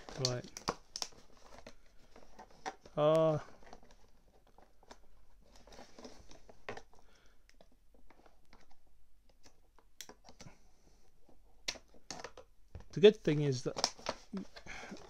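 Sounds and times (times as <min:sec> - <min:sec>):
plastic packaging clicks and rustling: 0:00.0 - 0:10.5, 0:11.6 - 0:15.0.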